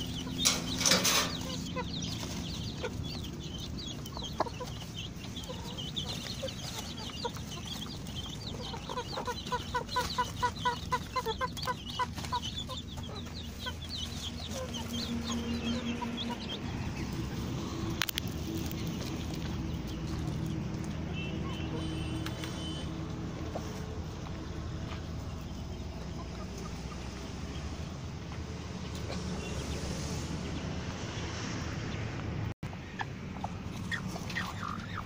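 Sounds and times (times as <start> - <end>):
chicken clucking: 0.0 - 29.7, 32.6 - 35.0
chicks peeping: 0.0 - 31.2, 32.6 - 35.0.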